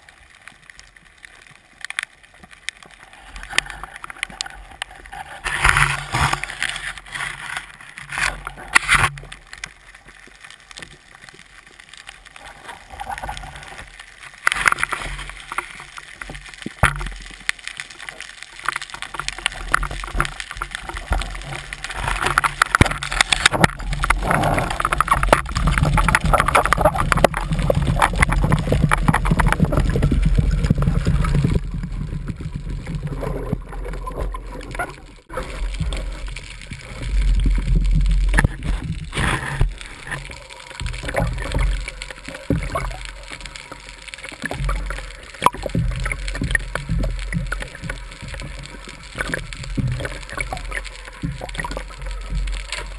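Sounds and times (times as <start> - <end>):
water rushing and sloshing underwater: 0.0 - 52.9.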